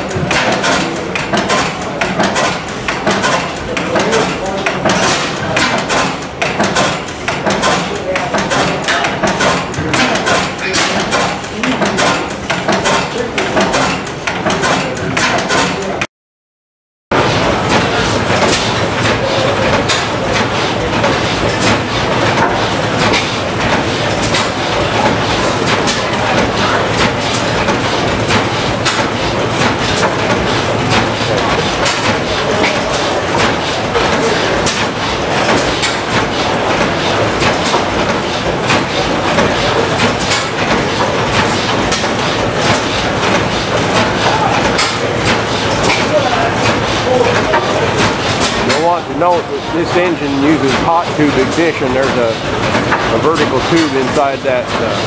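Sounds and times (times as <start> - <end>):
sharp mechanical clacks: 0.0 - 16.1, 17.2 - 55.0
stationary engine clattering: 0.0 - 16.1, 17.1 - 55.0.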